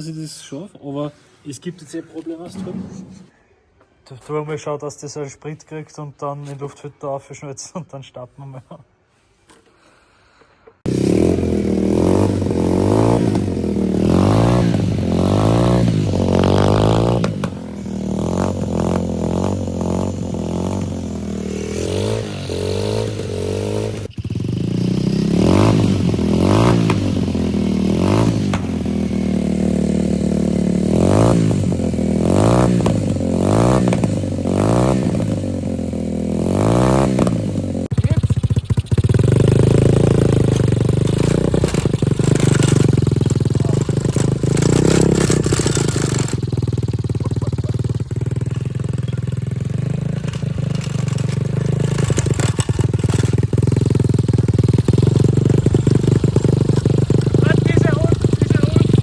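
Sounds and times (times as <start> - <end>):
pit bike engine revving: 10.8 - 59.0.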